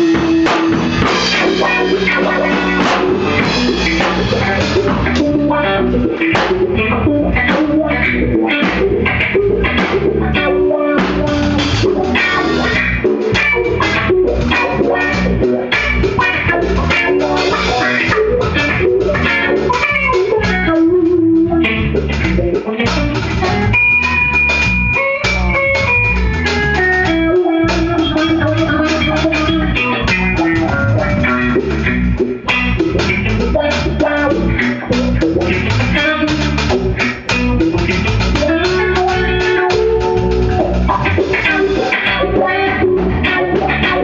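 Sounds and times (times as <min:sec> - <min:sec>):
bass guitar: 0:00.0 - 0:44.0
drum kit: 0:00.0 - 0:44.0
electric guitar: 0:00.0 - 0:44.0.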